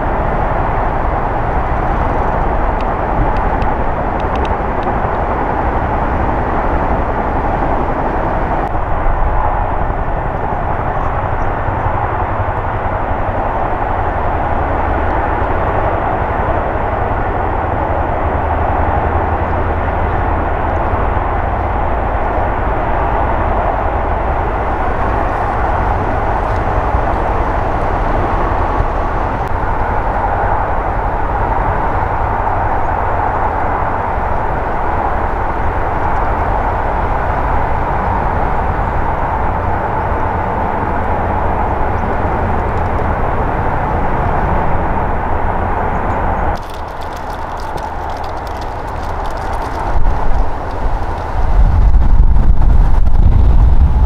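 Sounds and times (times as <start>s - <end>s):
helicopter engines and rotors: 0.0s - 54.0s.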